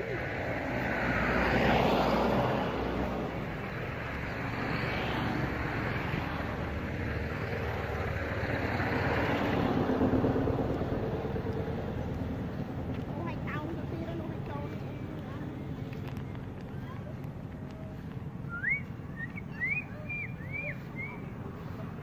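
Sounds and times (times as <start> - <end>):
engine hum: 0.0 - 22.0
traffic passing: 0.0 - 22.0.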